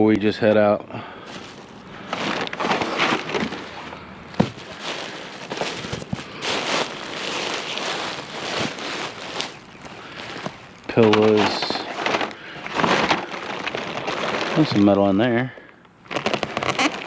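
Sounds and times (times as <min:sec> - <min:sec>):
rustling crackling handling noise: 0:01.3 - 0:15.2.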